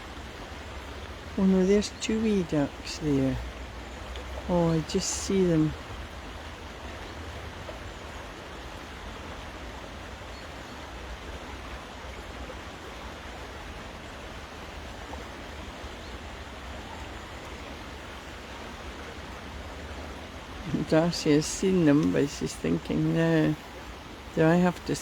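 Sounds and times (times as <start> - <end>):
rain falling on river: 0.0 - 25.0.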